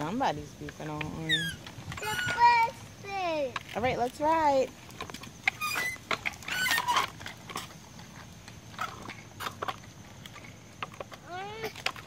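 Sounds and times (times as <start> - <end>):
plastic wheels rolling on concrete: 0.0 - 12.0.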